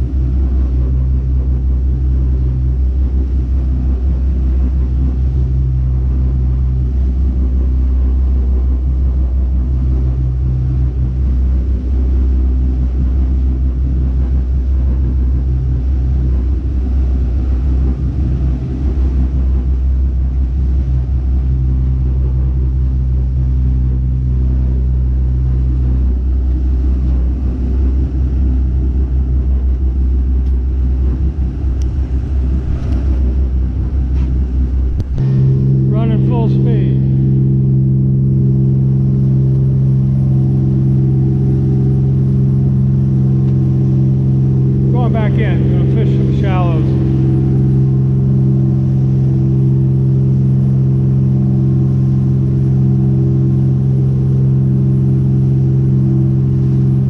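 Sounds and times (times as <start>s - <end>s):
boat engines droning: 0.0s - 57.0s.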